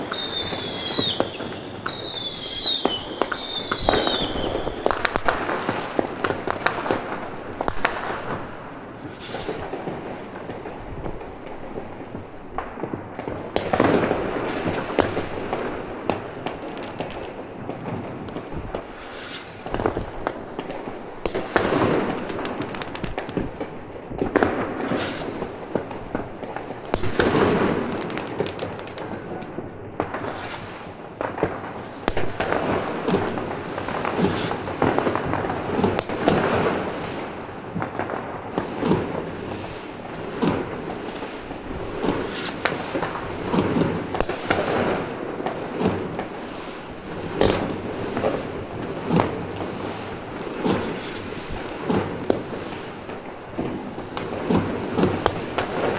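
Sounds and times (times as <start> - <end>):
fireworks and firecrackers banging: 0.0 - 55.9.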